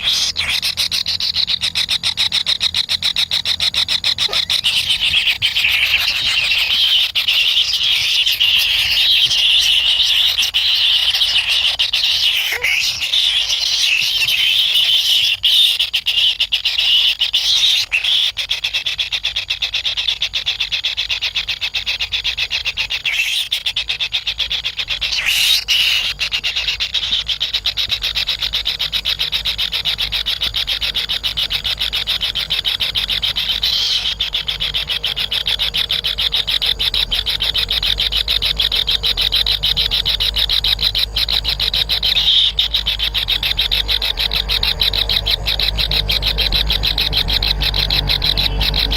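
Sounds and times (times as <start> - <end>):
chicks begging calls: 0.0 - 48.9.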